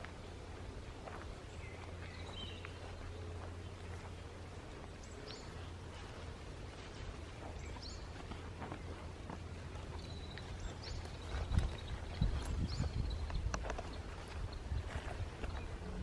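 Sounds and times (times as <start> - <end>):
faint footsteps on trail: 0.0 - 16.0
small birds chirping: 0.0 - 16.0.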